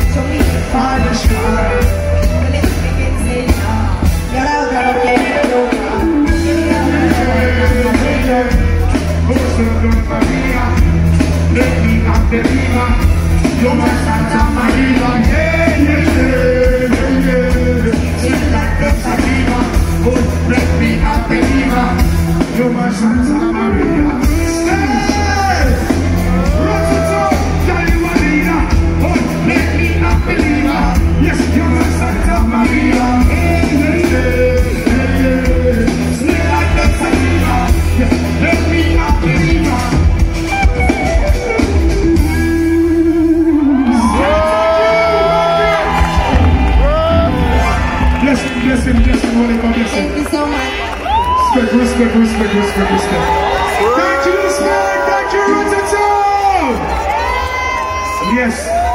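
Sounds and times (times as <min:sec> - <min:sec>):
dancehall song over pa: 0:00.0 - 0:40.9, 0:42.6 - 0:58.9.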